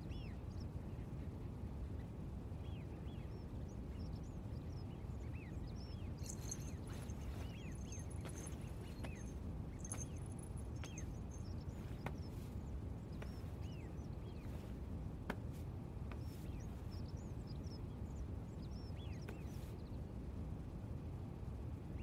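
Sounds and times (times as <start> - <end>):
low background hum: 0.0 - 22.0
small birds chirping: 0.0 - 22.0.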